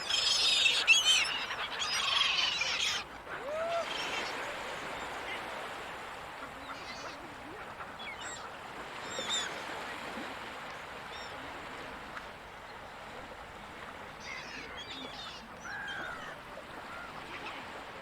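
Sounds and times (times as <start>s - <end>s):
ocean surf: 0.0s - 18.0s.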